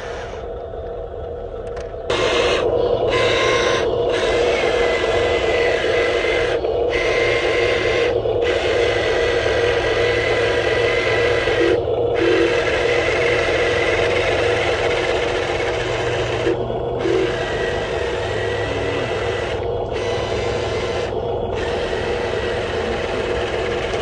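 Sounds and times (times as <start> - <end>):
electric motors whirring: 0.0 - 24.0
high-pitched motor whine: 0.0 - 24.0.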